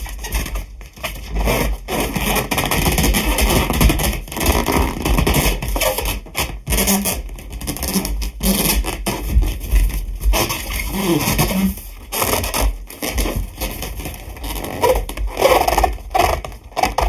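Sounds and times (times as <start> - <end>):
balloon squeaks: 0.0 - 17.0
hands rubbing rubber balloon: 0.0 - 17.0.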